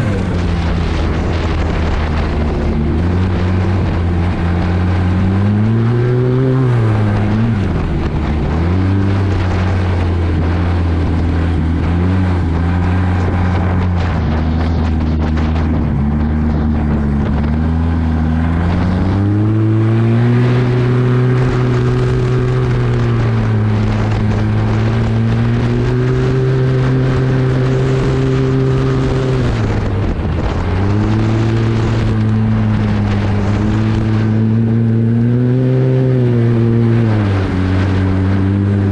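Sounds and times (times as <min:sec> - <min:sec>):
snowmobile engine running hard: 0:00.0 - 0:38.9.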